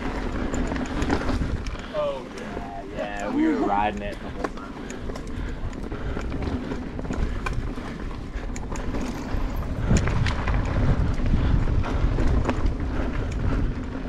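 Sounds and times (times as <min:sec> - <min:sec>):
bike clicks and rattles: 0:00.0 - 0:14.0
bike tyres rolling on dirt: 0:00.0 - 0:14.0
wind rushing over microphone: 0:00.0 - 0:14.0.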